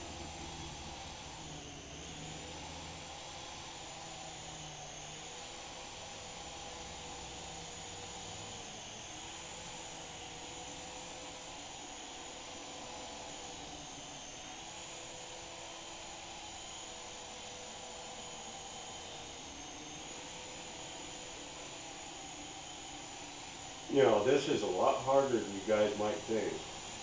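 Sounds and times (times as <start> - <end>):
high motor whine: 0.0 - 27.0
toy helicopter rotors whirring: 0.0 - 27.0.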